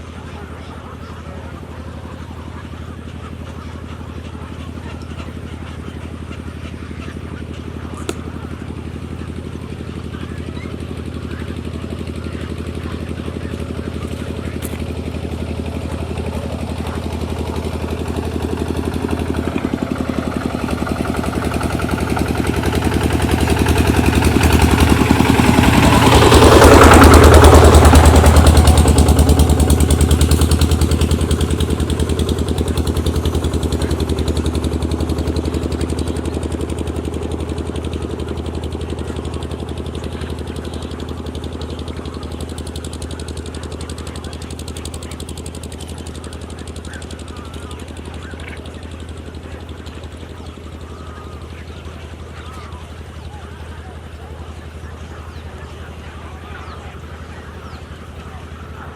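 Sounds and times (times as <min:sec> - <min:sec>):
engine running with rapid pulse: 0:00.0 - 0:58.9.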